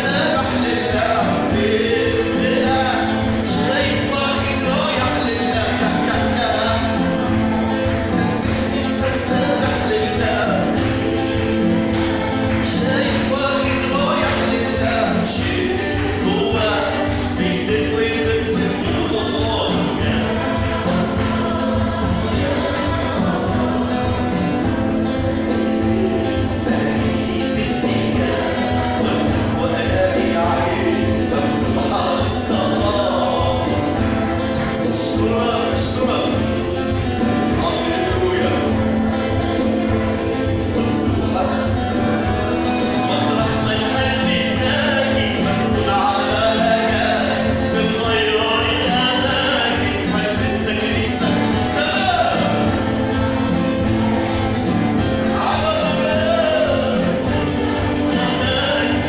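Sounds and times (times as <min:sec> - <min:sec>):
group singing a hymn: 0:00.0 - 0:59.0
instrumental accompaniment: 0:00.0 - 0:59.0.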